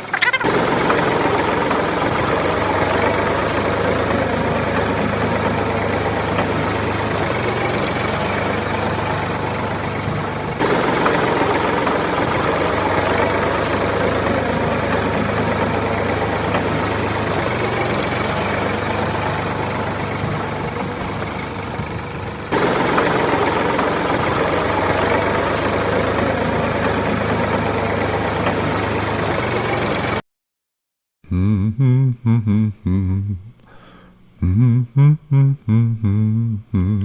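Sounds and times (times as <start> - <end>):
small engine humming: 0.0 - 30.2.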